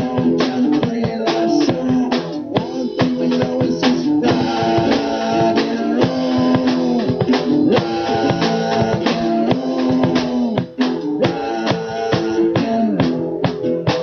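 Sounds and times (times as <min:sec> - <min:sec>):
drum kit beating: 0:00.0 - 0:14.0
strummed guitar chords: 0:00.0 - 0:14.0.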